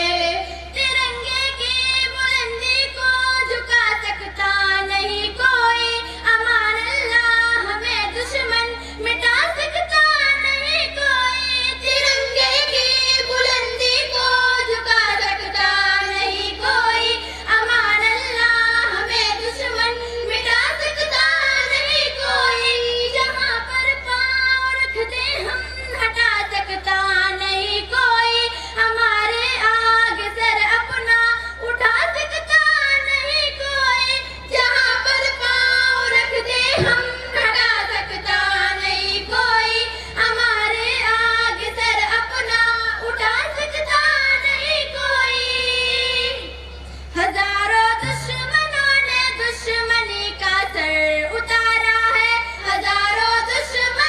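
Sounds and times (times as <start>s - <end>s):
young woman singing: 0.0s - 46.5s, 47.1s - 54.0s.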